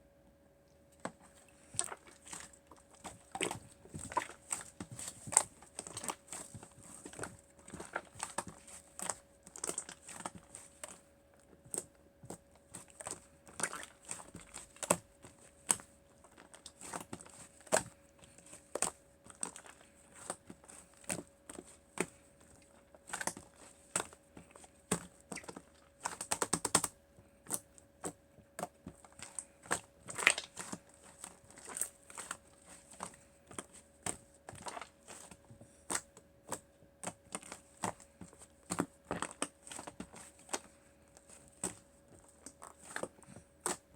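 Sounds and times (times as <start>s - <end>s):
faint steady hum: 0.0s - 43.9s.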